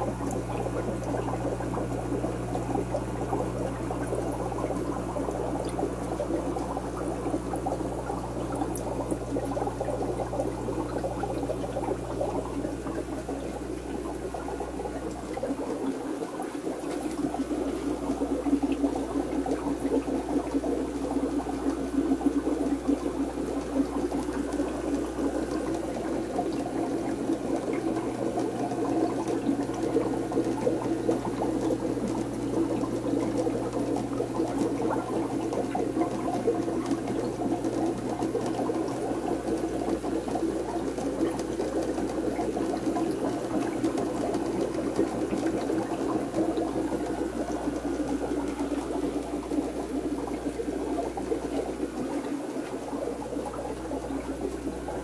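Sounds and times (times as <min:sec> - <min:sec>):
pump humming: 0:00.0 - 0:55.0
water bubbling and splashing: 0:00.0 - 0:55.0.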